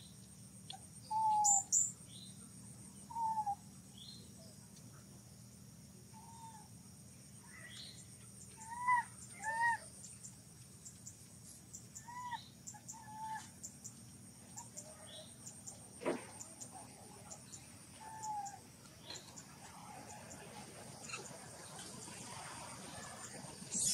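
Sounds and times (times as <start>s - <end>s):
steady high-pitched hiss: 0.0s - 23.9s.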